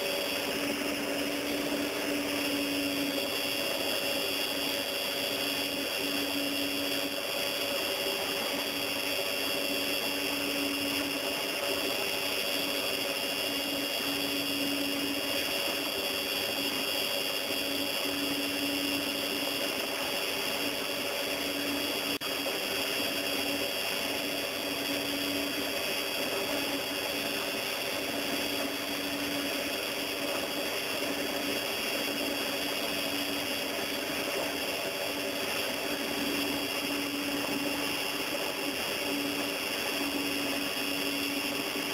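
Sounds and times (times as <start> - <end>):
electric mixer whirring: 0.0 - 41.9.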